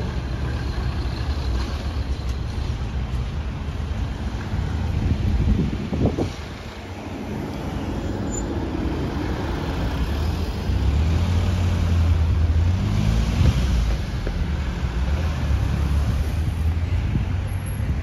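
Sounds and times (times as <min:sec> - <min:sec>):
cars passing close by: 0:00.0 - 0:18.0.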